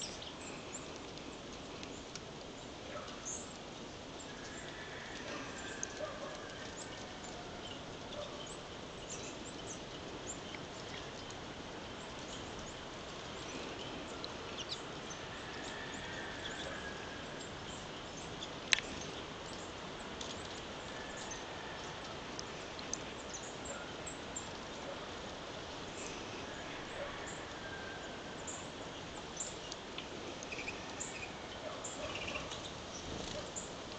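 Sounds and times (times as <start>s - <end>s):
small birds chirping: 0.0s - 33.9s
steady hiss: 0.0s - 33.9s.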